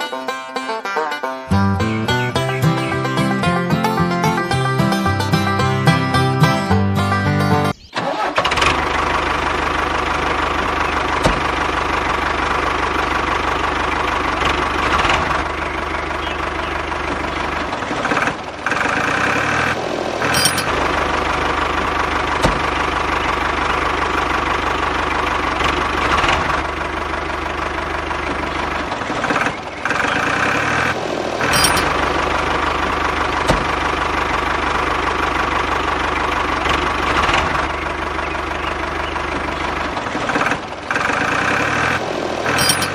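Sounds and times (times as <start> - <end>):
toy backhoe engine hum: 0.0 - 42.9.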